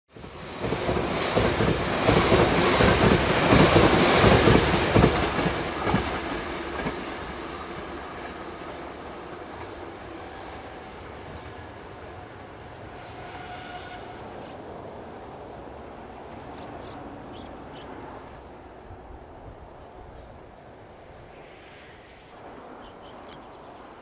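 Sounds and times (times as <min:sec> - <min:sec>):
freight train passing: 0:00.1 - 0:24.0.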